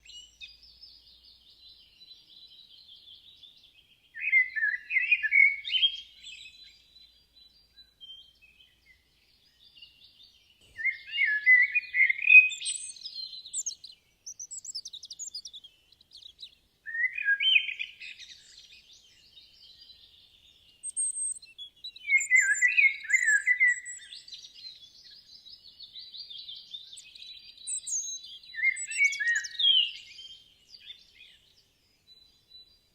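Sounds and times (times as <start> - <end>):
faint bird chirping: 0.0 - 32.9
songbird song phrase: 0.0 - 32.9.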